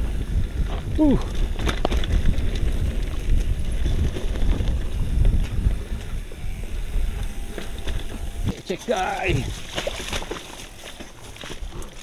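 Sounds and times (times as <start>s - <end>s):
mountain bike rattling on rocks: 0.0s - 12.0s
wind rumbling on microphone: 0.0s - 12.0s.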